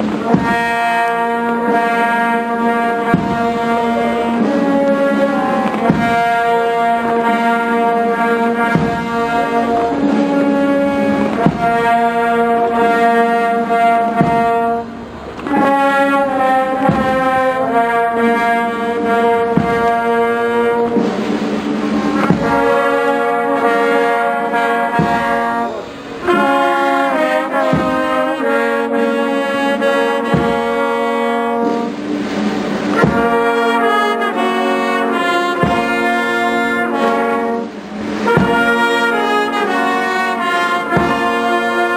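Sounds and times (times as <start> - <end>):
brass band playing slow march: 0.0 - 41.9
drum beat: 0.0 - 41.9.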